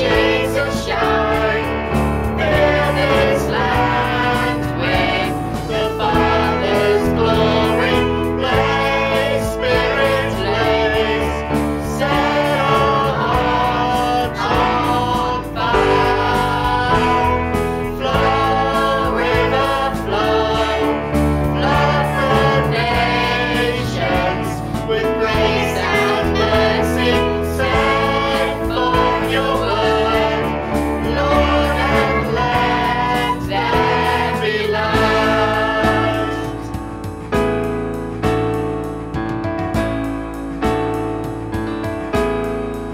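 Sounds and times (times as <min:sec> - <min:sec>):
group singing worship song: 0:00.0 - 0:37.4
band accompaniment: 0:00.0 - 0:42.9.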